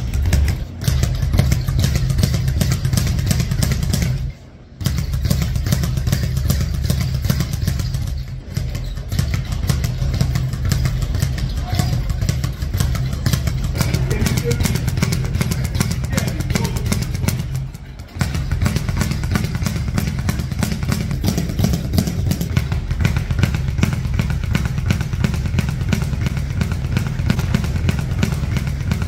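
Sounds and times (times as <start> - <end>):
speed bag rapid hits: 0.0 - 29.0.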